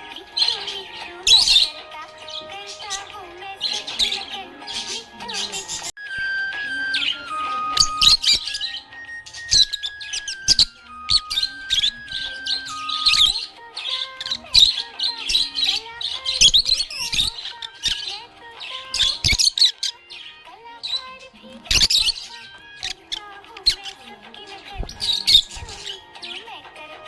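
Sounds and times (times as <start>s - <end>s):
budgerigars chirping and warbling: 0.0s - 27.0s.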